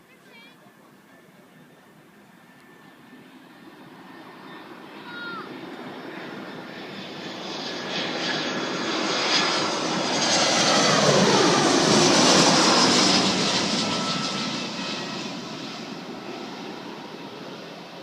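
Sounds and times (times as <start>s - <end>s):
aircraft engine passing: 0.7s - 18.0s.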